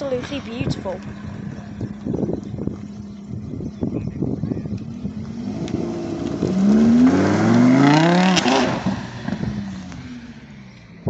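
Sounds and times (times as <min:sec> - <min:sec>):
car engine accelerating hard: 0:00.1 - 0:11.0.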